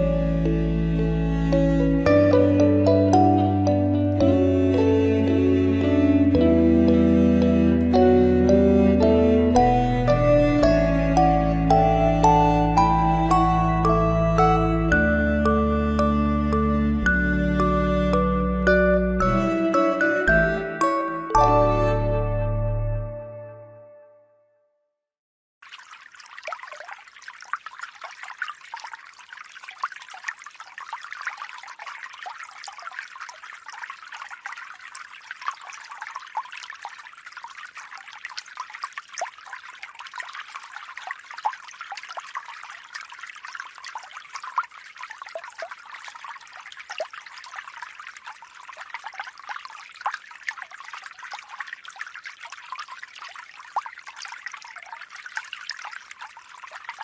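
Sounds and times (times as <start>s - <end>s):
water trickling and splashing: 0.0s - 21.4s, 25.6s - 57.0s.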